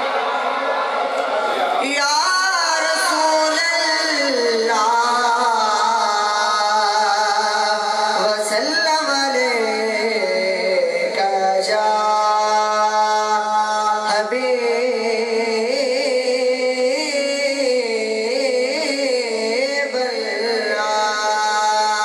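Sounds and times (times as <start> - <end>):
person singing into a microphone: 1.6 - 22.0.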